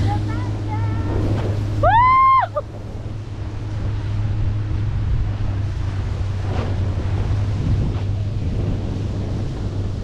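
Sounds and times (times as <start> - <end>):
churning water spray: 0.0 - 10.0
wind on microphone: 0.0 - 10.0.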